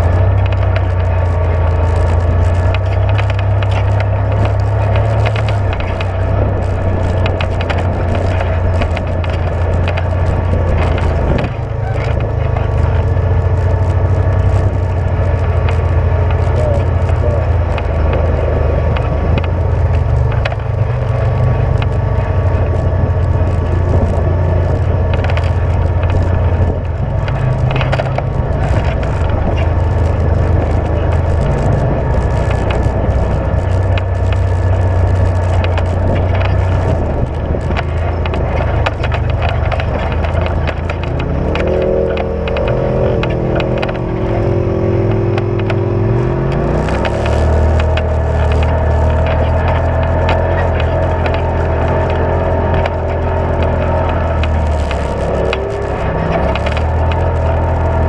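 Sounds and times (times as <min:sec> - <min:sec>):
clatter and rattles: 0:00.0 - 0:58.0
utility vehicle engine running: 0:00.0 - 0:58.0.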